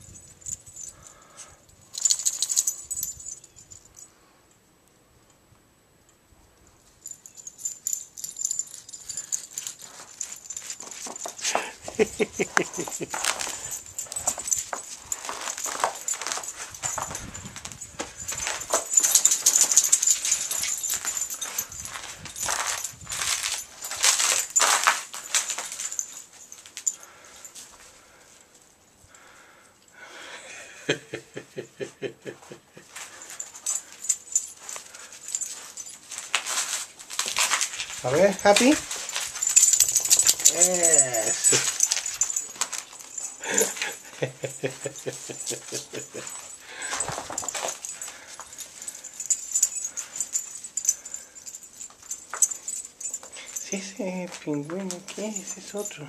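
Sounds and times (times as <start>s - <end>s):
dog collar tags jingling: 0.0s - 4.1s, 6.8s - 30.0s, 32.4s - 56.0s.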